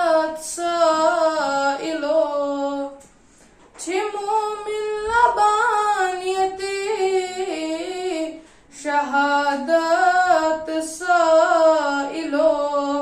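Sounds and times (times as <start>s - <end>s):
boy singing unaccompanied: 0.0s - 3.0s, 3.8s - 13.0s.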